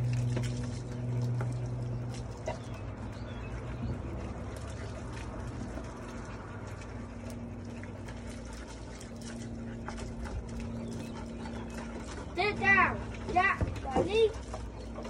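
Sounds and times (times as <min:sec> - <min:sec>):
garden hose water spraying: 0:00.0 - 0:15.0
steady low hum: 0:00.0 - 0:15.0.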